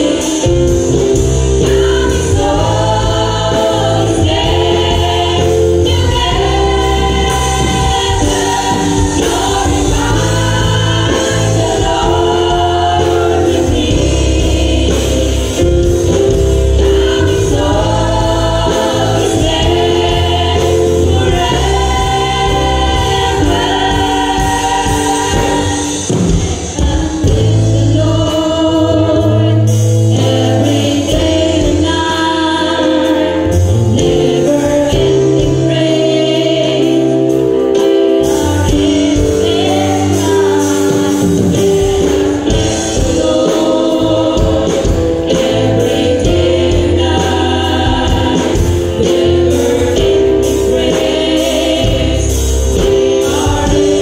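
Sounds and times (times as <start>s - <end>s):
deep bass accompaniment: 0.0s - 54.0s
women's choir singing a hymn: 0.0s - 54.0s.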